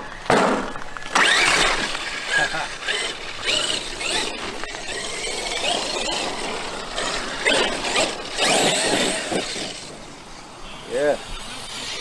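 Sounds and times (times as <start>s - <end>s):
electric motor whining: 1.0s - 12.0s.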